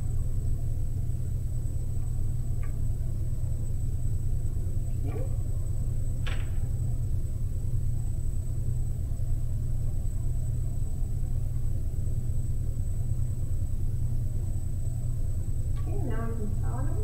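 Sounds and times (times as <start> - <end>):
faint high-pitched whine: 0.0 - 17.0
low rumbling hum: 0.0 - 17.0.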